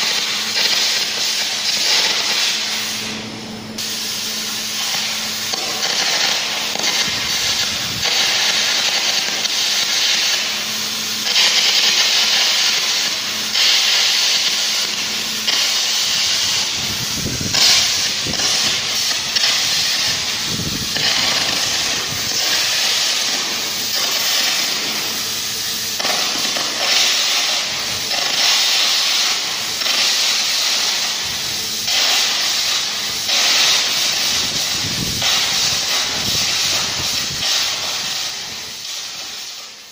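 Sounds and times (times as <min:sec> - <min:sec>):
arc gouging hissing and crackling: 0:00.0 - 0:39.9.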